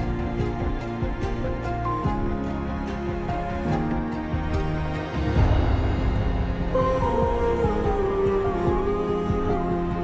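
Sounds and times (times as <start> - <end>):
dark dramatic soundtrack music: 0.0 - 10.0.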